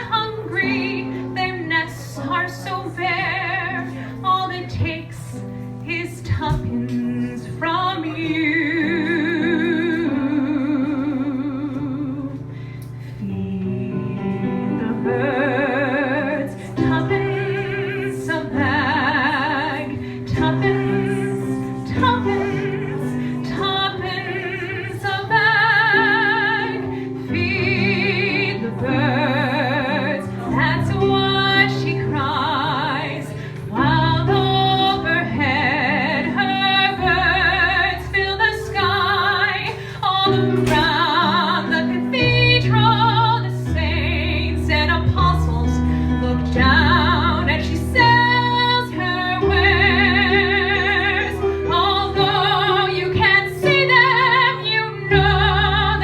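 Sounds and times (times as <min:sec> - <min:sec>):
woman singing slow ballad: 0:00.0 - 0:56.0.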